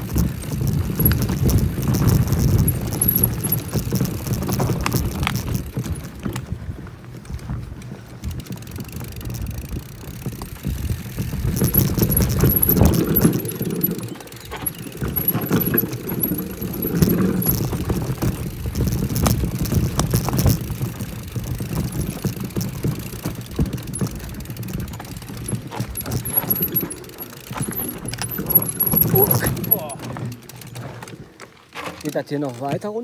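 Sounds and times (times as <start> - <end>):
bike chain and frame rattling: 0.0 - 33.0
bike tyres rumbling over dirt: 0.0 - 33.0.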